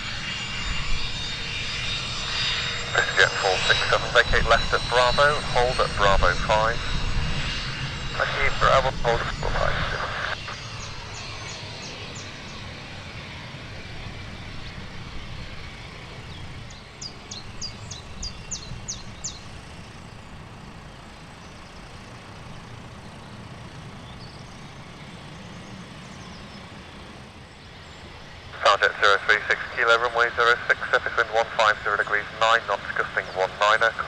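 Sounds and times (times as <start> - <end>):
distant engine rumble: 0.0 - 34.0.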